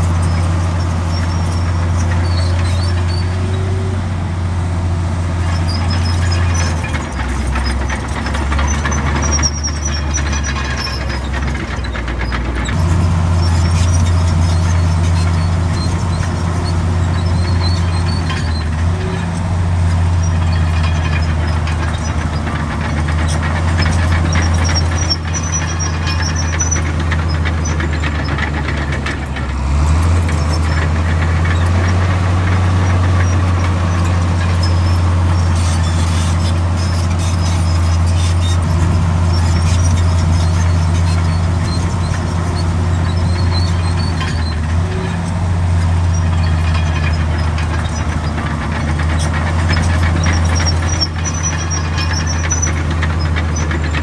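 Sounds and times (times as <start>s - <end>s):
diesel machinery engine drone: 0.0s - 54.0s
faint high squeaks: 0.1s - 3.9s, 5.4s - 54.0s.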